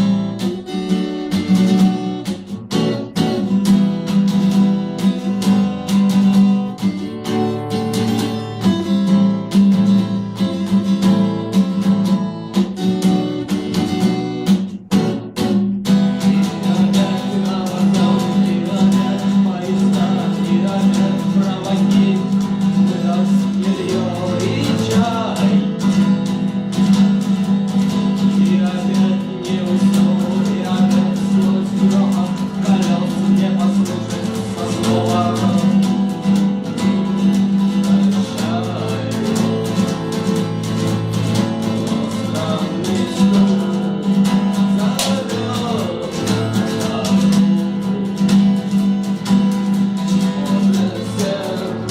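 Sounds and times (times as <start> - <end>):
strummed guitar: 0.0 - 51.9.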